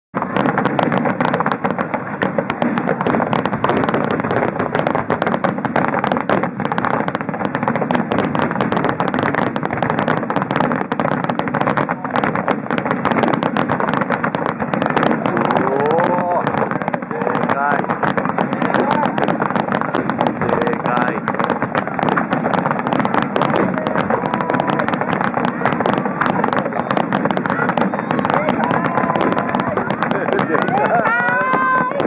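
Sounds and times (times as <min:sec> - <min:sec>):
fireworks bursting: 0:00.1 - 0:32.0.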